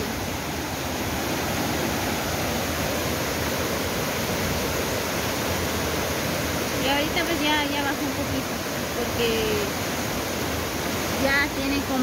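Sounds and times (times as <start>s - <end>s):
floodwater rushing over rocks: 0.0s - 12.0s.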